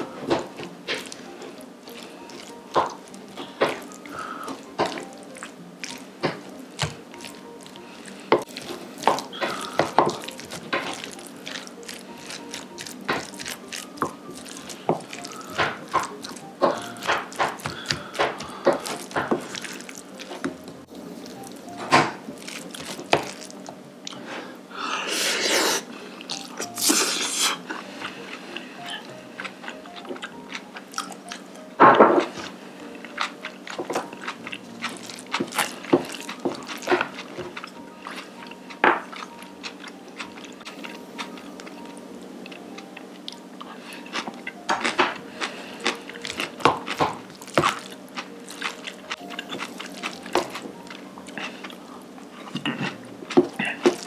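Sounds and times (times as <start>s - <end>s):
wet squelches of stirring: 0.0s - 31.5s, 32.3s - 42.0s, 43.2s - 54.0s.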